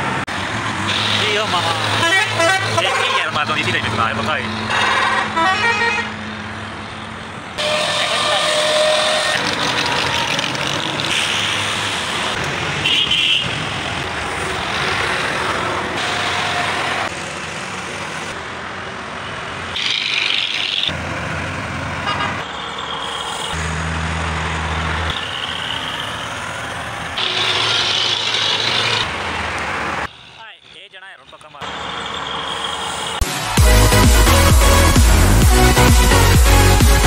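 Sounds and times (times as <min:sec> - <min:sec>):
heavy trucks on a road: 0:00.0 - 0:37.0.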